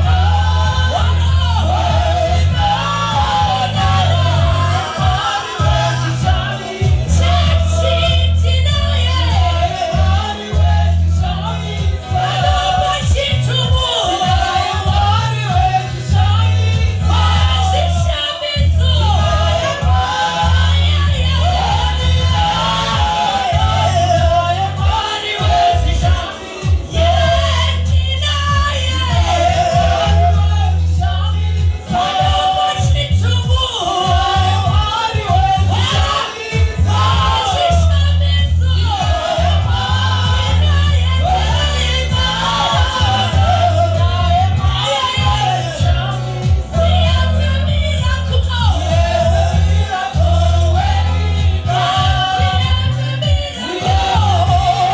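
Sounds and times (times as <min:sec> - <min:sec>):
congregation singing gospel: 0:00.0 - 0:54.9
electric bass line: 0:00.0 - 0:54.9.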